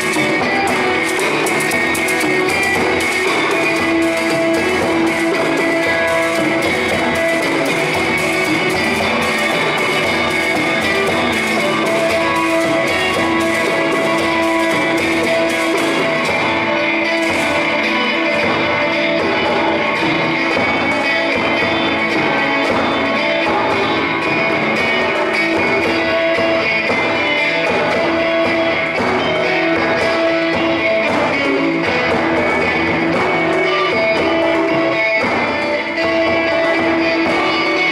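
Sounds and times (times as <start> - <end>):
small band playing guitar: 0.0 - 37.9.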